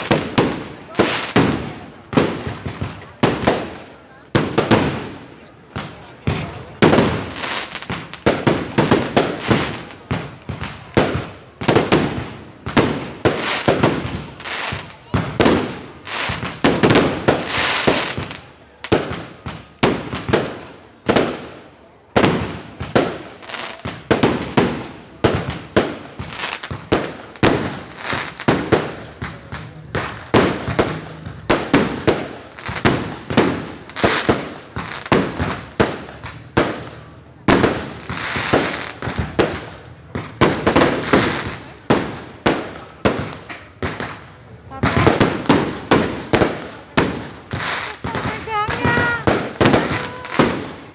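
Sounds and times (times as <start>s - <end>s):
fireworks and firecrackers banging: 0.0s - 50.9s.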